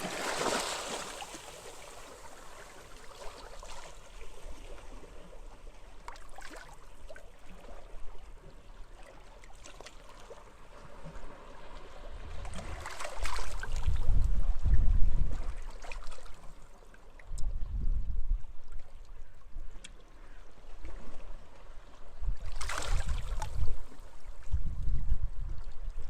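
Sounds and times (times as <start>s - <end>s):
small waves lapping: 0.0s - 14.0s, 15.3s - 17.3s, 18.8s - 24.5s.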